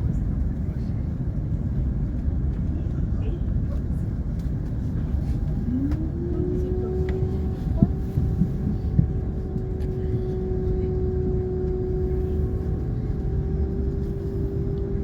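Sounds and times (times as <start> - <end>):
airliner cabin low rumble: 0.0 - 15.0
constant hum: 0.0 - 15.0.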